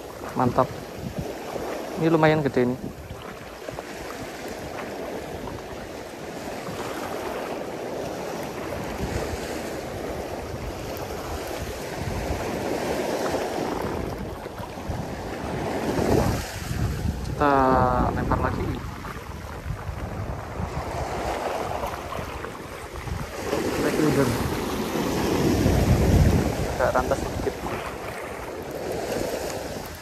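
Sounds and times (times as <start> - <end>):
waves on rocky shore: 0.0 - 30.0
wind buffeting microphone: 0.0 - 30.0.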